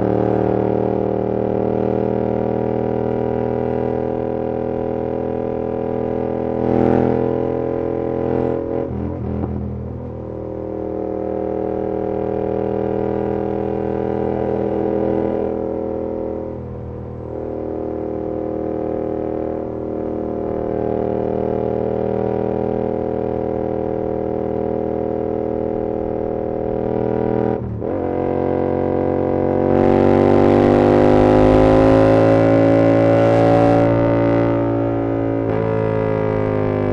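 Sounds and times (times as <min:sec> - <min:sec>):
motorcycle engine droning: 0:00.0 - 0:36.9.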